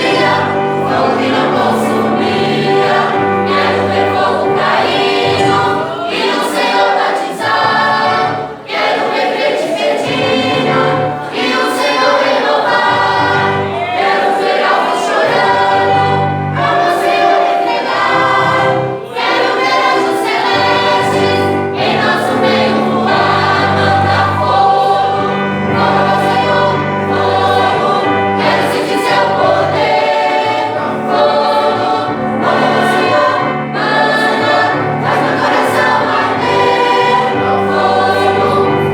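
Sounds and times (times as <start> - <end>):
choir singing worship song: 0.0 - 38.9.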